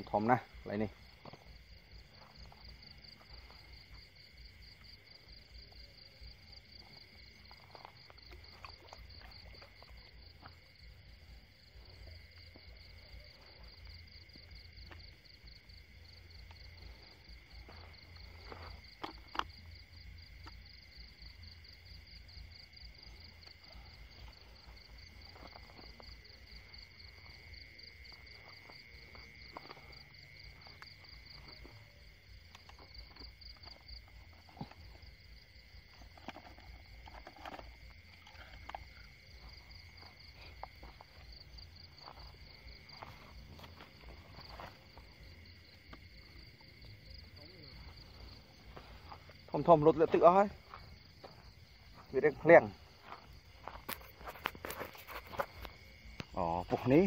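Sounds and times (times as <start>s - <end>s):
lower insect trill: 0.0s - 57.0s.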